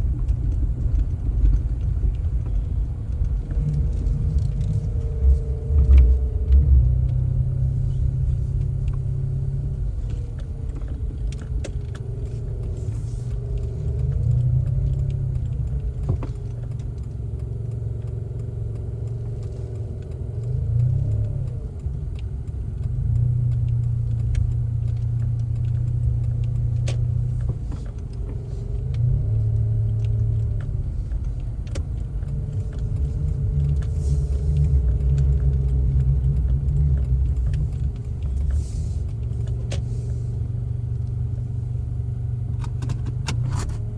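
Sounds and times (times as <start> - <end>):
car engine: 0.0 - 43.9
light clicks and rattles: 0.0 - 43.9
road rumble: 0.0 - 43.9.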